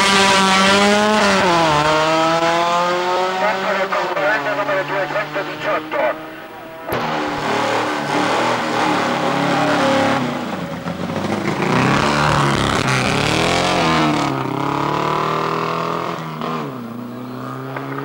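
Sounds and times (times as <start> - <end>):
racing car engine revving: 0.0 - 18.0.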